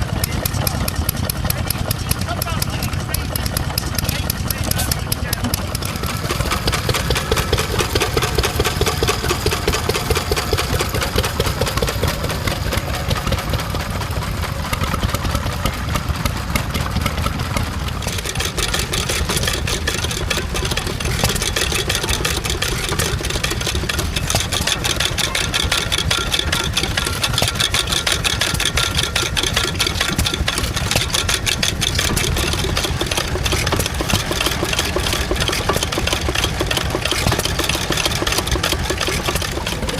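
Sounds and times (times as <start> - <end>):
stationary engine running: 0.0 - 39.9.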